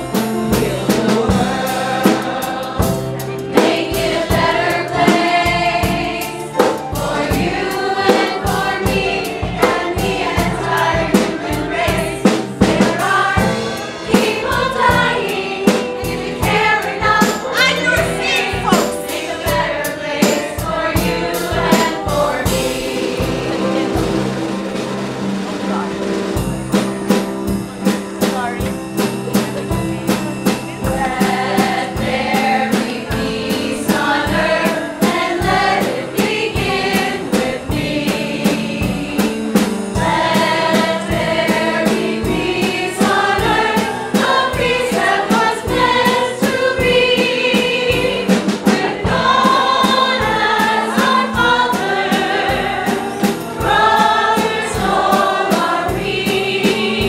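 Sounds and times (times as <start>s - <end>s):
instrumental accompaniment: 0.0s - 57.0s
steady drum beat: 0.0s - 57.0s
choir of women and girls singing: 0.4s - 24.4s, 30.8s - 57.0s.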